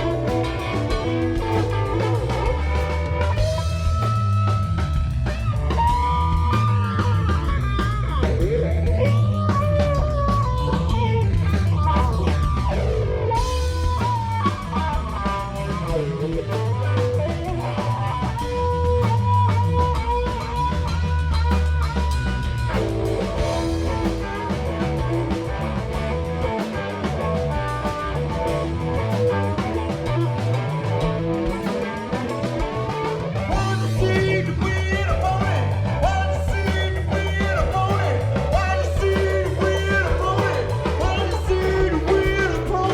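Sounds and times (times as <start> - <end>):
electric guitar lines: 0.0 - 42.9
live rock band: 0.0 - 42.9.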